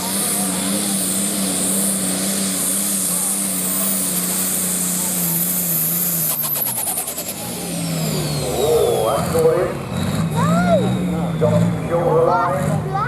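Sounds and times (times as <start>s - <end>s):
engine rattle: 0.0s - 13.0s
tractor diesel engine revving: 0.0s - 13.0s.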